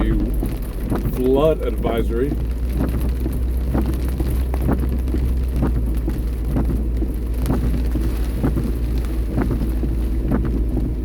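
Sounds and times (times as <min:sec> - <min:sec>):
car driving rumble: 0:00.0 - 0:11.0
rain drops hitting a car: 0:00.0 - 0:11.0.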